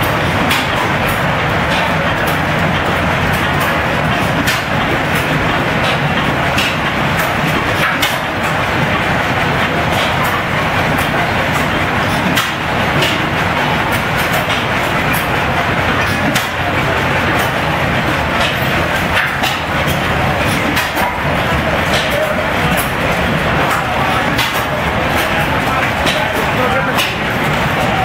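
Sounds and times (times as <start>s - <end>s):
engine pops and clicks: 0.0s - 28.0s
stationary engines clattering: 0.0s - 28.0s.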